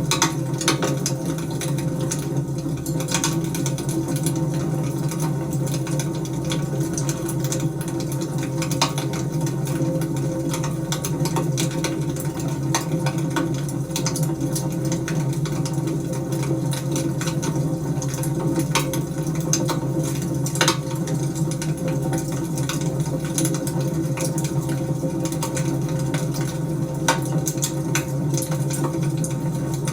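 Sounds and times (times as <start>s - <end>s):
wood fire crackling and popping: 0.0s - 14.2s, 16.9s - 29.9s.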